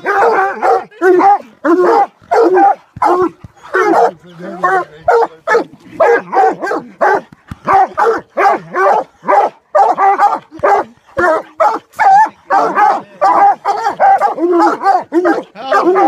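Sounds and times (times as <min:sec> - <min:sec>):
dogs barking loudly: 0:00.0 - 0:16.0.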